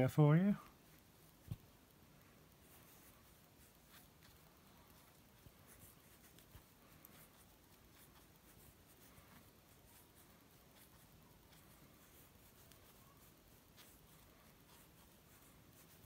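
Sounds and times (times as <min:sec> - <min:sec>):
crochet hook working yarn: 0:00.4 - 0:16.0.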